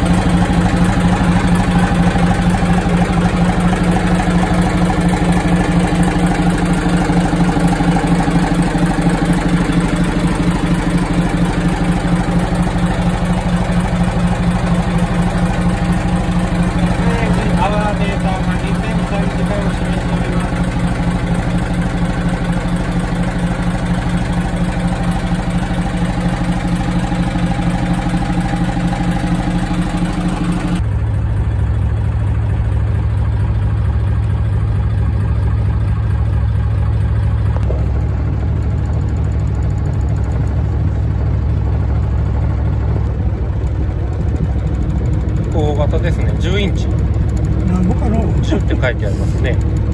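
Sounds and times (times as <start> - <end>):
diesel boat engine idling: 0.0 - 49.9.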